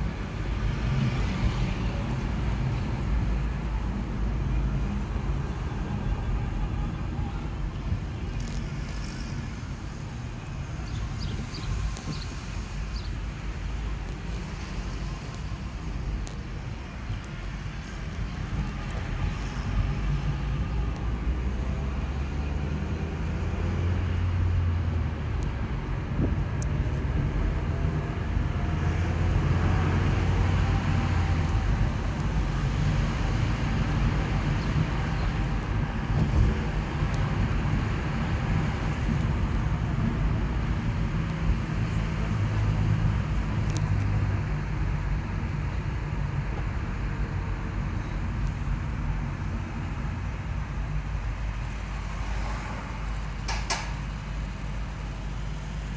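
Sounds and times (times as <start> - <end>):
car engine rumble: 0.0 - 55.9.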